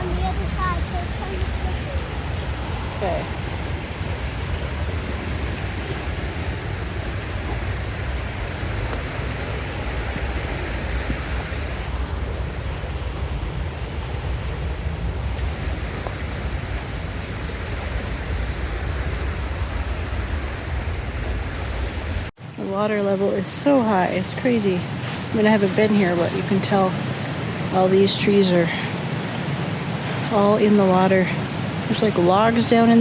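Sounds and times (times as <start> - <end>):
river rushing: 0.0 - 33.0.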